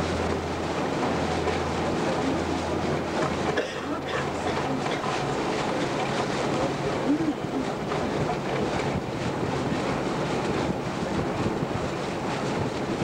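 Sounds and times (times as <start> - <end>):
low engine hum: 0.0 - 13.0
water rushing past boat: 0.0 - 13.0
wind buffeting microphone: 0.0 - 13.0.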